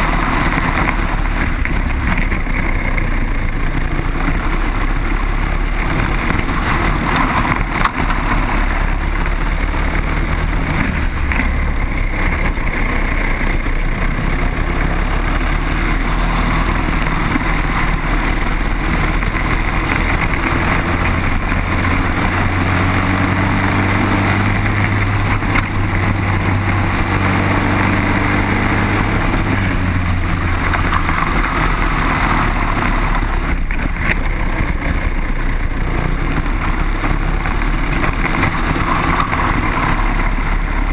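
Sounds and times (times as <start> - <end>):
kart engine revving: 0.0 - 40.9.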